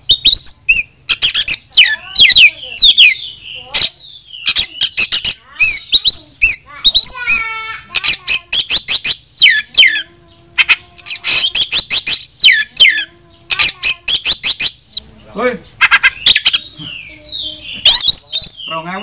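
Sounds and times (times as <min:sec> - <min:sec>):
bird singing varied song: 0:00.0 - 0:19.0.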